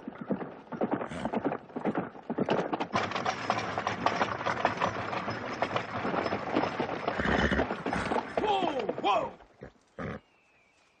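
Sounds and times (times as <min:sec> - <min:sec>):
wagon wheels rattling: 0:00.0 - 0:10.0
horse hooves drumming: 0:00.0 - 0:10.2.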